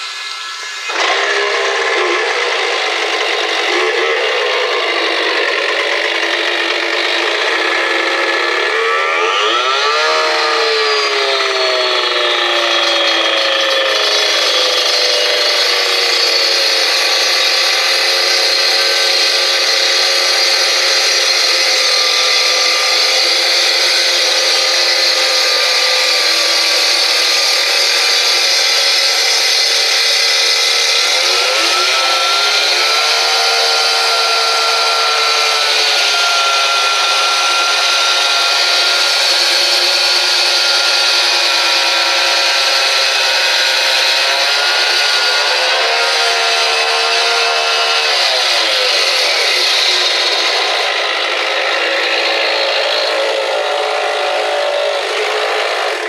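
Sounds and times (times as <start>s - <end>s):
cut-off saw grinding concrete: 0.0s - 56.0s.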